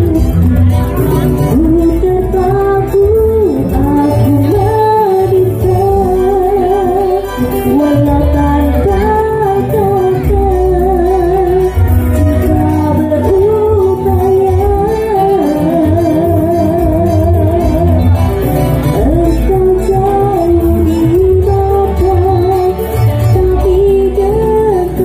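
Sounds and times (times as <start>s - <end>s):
live band music: 0.0s - 25.0s
woman singing with vibrato: 0.0s - 25.0s.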